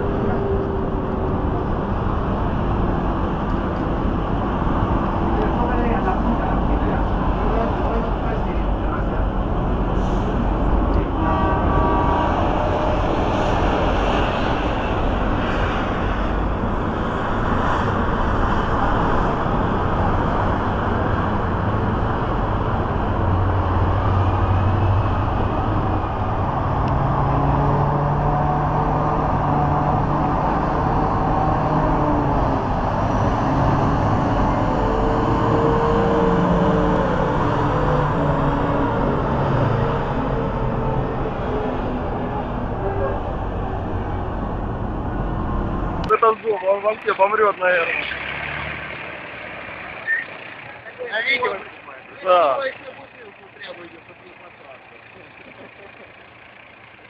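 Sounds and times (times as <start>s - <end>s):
steady rushing noise: 0.0s - 48.1s
diesel truck engine driving past: 0.0s - 57.0s.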